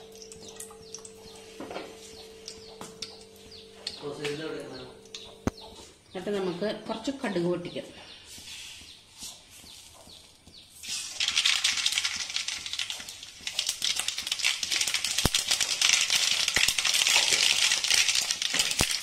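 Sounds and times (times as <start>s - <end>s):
seeds crackling in hot oil: 0.0s - 5.7s, 8.3s - 19.0s.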